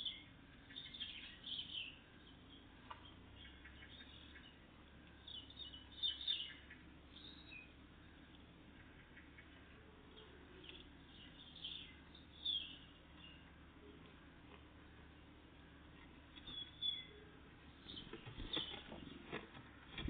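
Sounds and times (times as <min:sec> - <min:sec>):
songbirds chirping faintly: 0:00.0 - 0:20.0.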